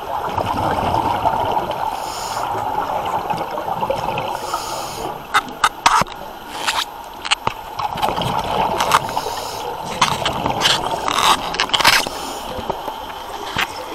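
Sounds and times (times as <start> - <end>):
bubbling underwater: 0.0 - 13.9
underwater welding crackles: 2.0 - 13.9.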